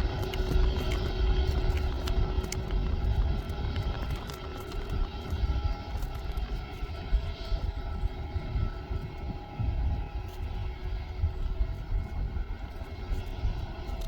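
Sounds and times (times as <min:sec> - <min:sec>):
distant airliner engines humming: 0:00.0 - 0:14.0.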